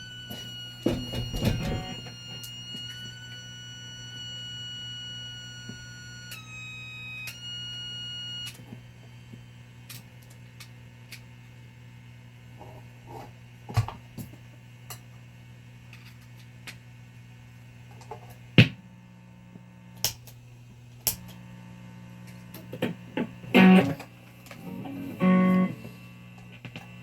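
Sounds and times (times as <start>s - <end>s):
amplifier mains hum: 0.0s - 27.0s.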